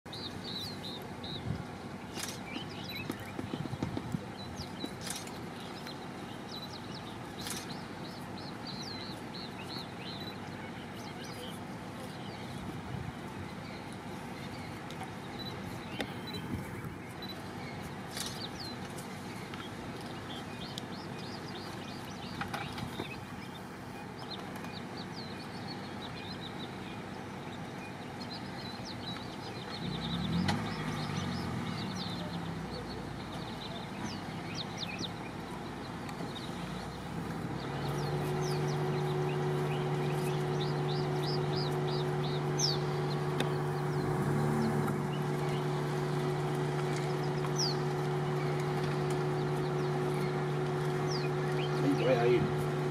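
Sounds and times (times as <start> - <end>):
vehicle engine idling: 0.1 - 52.9.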